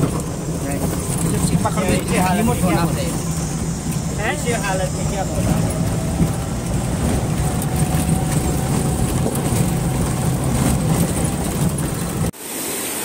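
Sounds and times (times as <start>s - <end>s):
car engine rumbling: 0.0s - 12.4s
tyres on dirt track: 0.0s - 12.5s.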